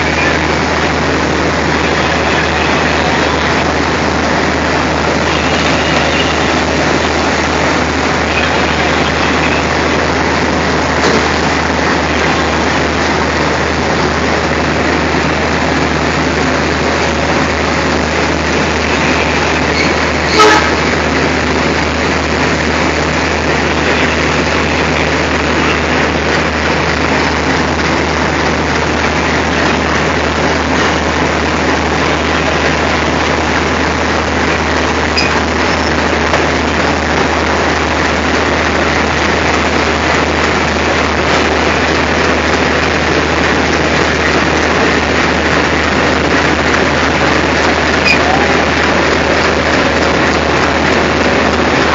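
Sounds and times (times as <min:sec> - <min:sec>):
diesel locomotive engine idling: 0:00.0 - 0:51.9.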